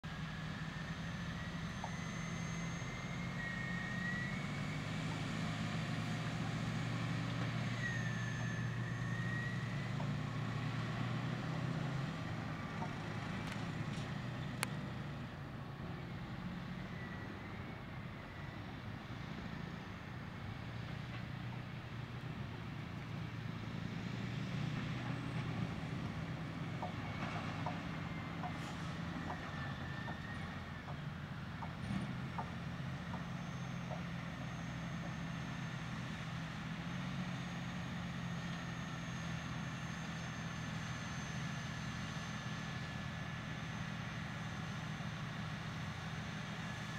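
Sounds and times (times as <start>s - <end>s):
heavy diesel engines droning: 0.0s - 46.9s.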